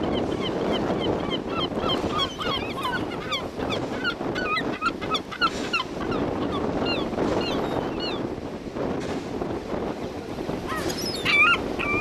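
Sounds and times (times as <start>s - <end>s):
gulls calling: 0.0s - 8.2s, 10.6s - 12.0s.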